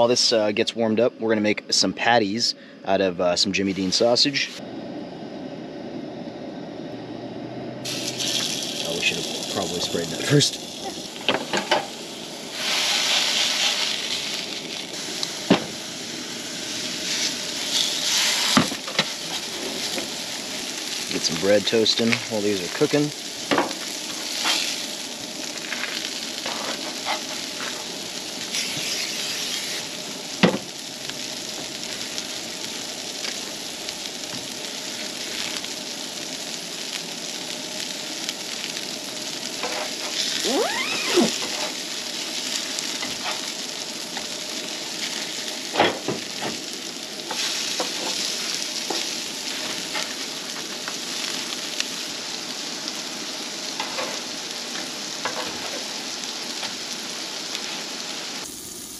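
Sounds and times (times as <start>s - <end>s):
sausage sizzling on griddle: 7.8s - 58.9s.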